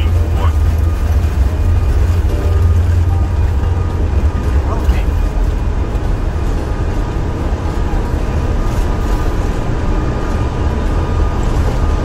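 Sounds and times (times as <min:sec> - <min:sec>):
aircraft engine rumble: 0:00.0 - 0:12.0
faint engine whine: 0:00.0 - 0:12.0.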